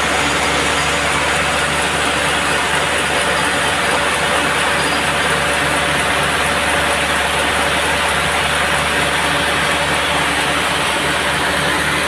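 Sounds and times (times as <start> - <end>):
band sawmill running: 0.0 - 12.0.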